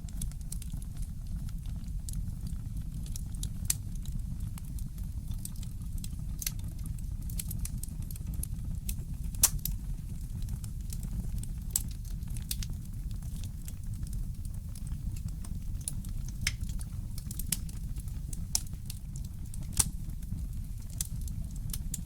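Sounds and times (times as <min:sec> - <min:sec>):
wood fire crackling: 0:00.1 - 0:22.0.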